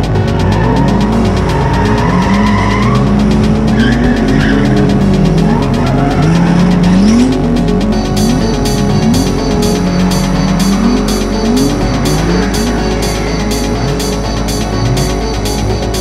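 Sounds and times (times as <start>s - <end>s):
background music with steady beat: 0.0s - 16.0s
car engines revving: 0.0s - 16.0s
tyres squealing: 0.0s - 16.0s.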